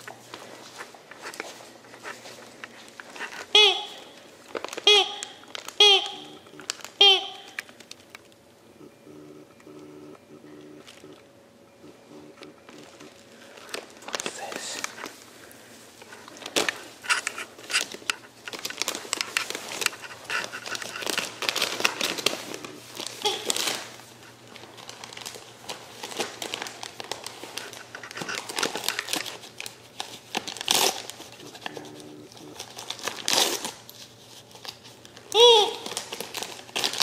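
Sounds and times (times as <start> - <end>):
wrapping paper crinkling: 0.0 - 8.4, 12.4 - 37.0.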